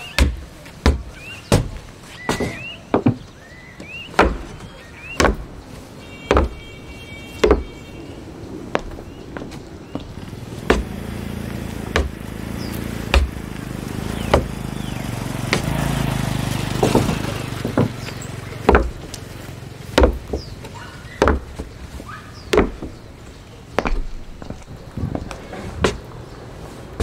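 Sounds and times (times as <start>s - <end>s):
vehicle engine humming: 0.0s - 27.0s
footsteps on railway track: 0.6s - 27.0s.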